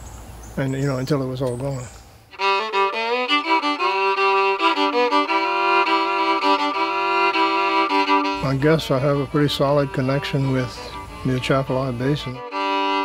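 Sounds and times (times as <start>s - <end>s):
fiddle playing slow melody: 2.3s - 13.0s.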